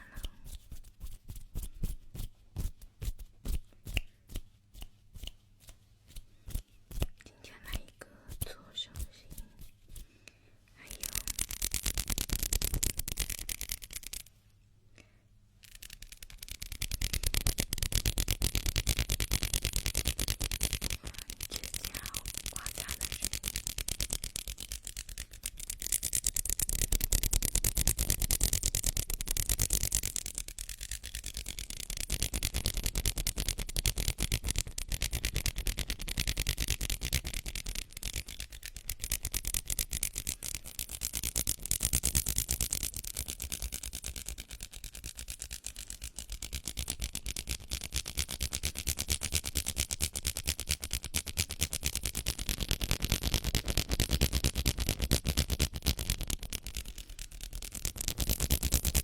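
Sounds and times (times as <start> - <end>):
hands rubbing together: 0.0 - 10.1, 10.8 - 14.3, 15.6 - 59.0.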